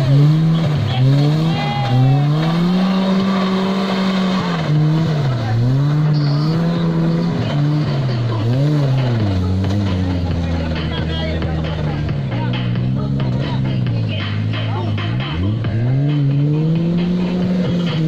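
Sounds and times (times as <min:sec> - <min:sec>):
engine revving hard: 0:00.0 - 0:18.0.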